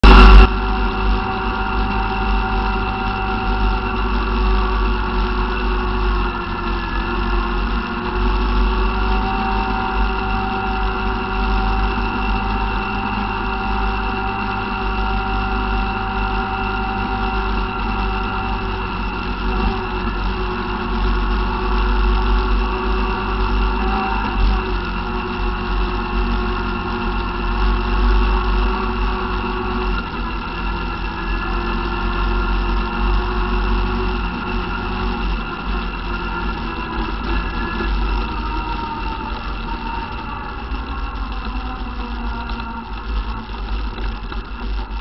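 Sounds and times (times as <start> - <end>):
quad engine running steadily: 0.0 - 45.0.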